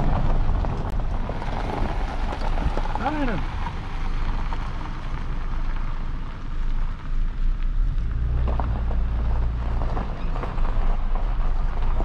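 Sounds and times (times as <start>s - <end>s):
car rolling on gravel: 0.0s - 12.0s
gravel crunching: 0.0s - 12.0s.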